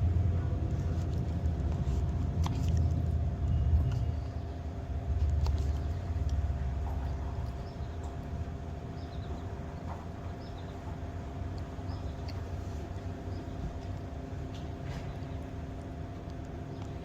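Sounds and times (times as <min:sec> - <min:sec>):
low mechanical hum with whine: 0:00.0 - 0:17.0.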